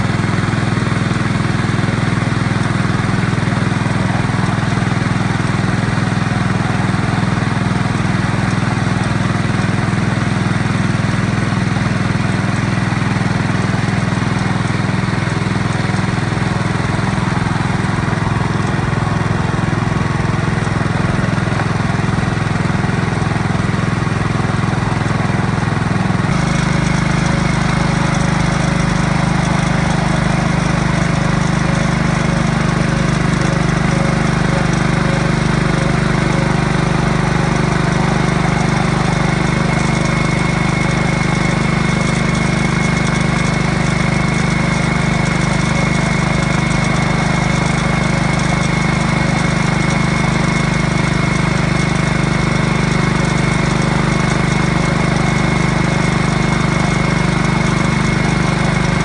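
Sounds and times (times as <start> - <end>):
small engine running: 0.0 - 59.0
thin steady whine: 0.0 - 59.0.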